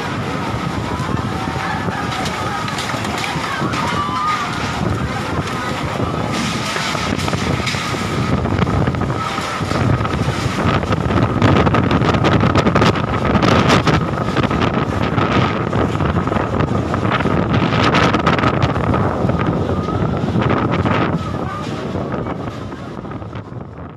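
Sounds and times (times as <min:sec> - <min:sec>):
storm wind gusting: 0:00.0 - 0:23.9.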